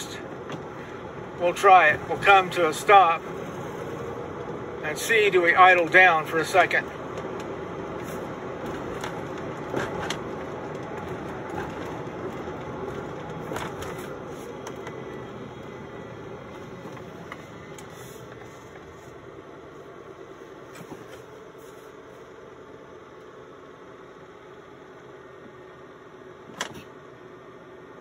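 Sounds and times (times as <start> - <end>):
truck engine: 0.0 - 26.9
road noise inside cab: 0.0 - 28.0.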